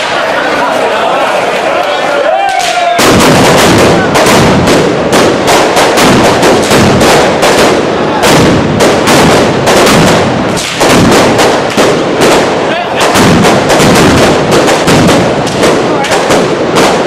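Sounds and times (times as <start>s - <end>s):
firecracker bangs: 0.0s - 0.6s, 2.5s - 17.0s.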